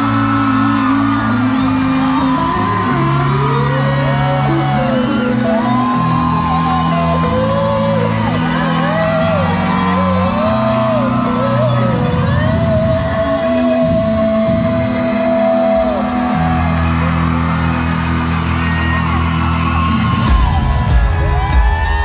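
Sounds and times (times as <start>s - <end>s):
crowd shouting and whooping: 0.0s - 22.0s
live rock band playing: 0.0s - 22.0s.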